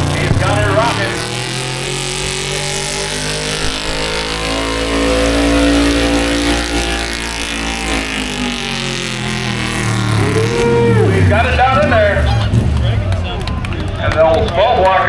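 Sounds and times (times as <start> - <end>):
truck engine revving loudly: 0.0 - 15.0.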